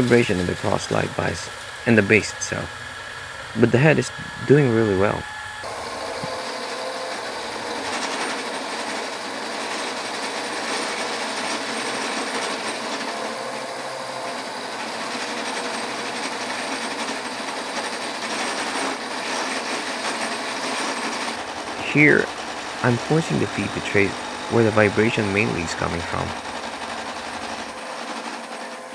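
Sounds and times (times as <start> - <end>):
milling machine cutting metal: 0.0 - 28.9.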